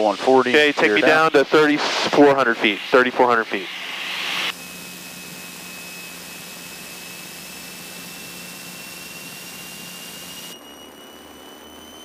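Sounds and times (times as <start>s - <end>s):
aircraft engine and propeller drone: 0.0s - 12.0s
thin whine rising in pitch: 0.0s - 12.0s.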